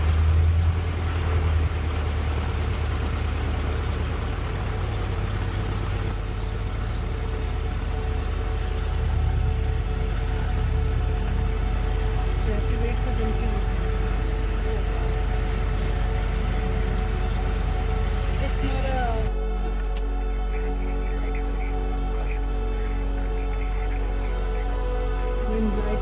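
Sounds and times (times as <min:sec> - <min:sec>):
light aircraft engine droning: 0:00.0 - 0:26.0.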